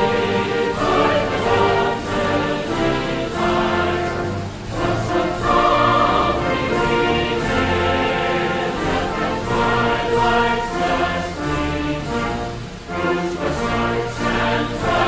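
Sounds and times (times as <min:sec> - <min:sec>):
choir singing an anthem: 0:00.0 - 0:15.0.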